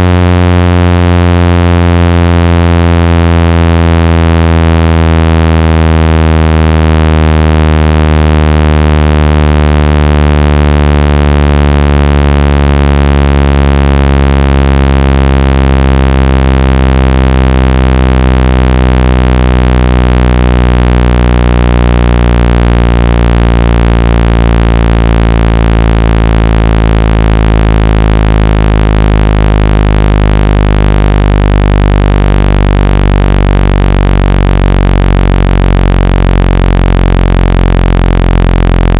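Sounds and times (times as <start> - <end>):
low buzzing tone sliding down: 0.0 - 38.9.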